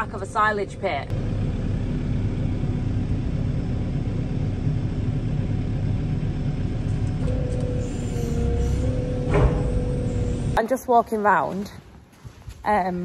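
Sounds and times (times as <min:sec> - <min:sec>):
diesel engine rumbling: 0:00.0 - 0:10.6
steady whine: 0:00.0 - 0:10.6.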